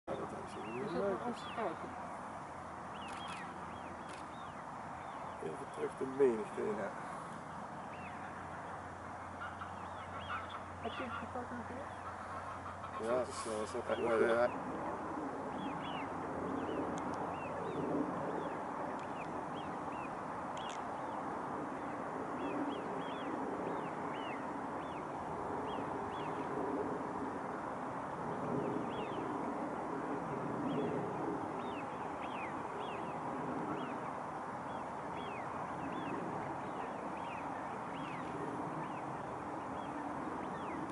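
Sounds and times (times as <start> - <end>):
waterbirds calling: 0.1 - 29.9, 30.6 - 40.9.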